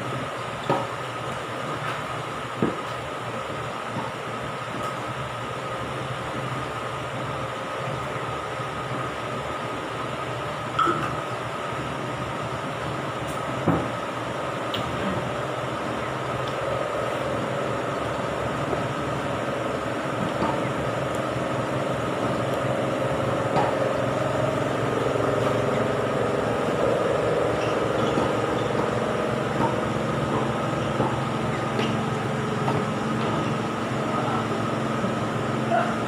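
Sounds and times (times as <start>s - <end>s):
machinery hum: 0.0s - 36.0s.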